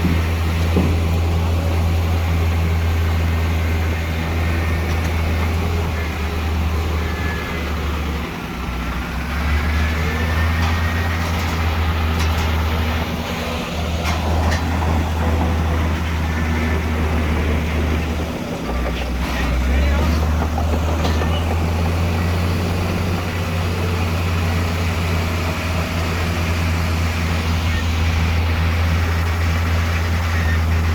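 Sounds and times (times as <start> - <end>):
diesel earthmoving machinery drone: 0.0 - 30.9.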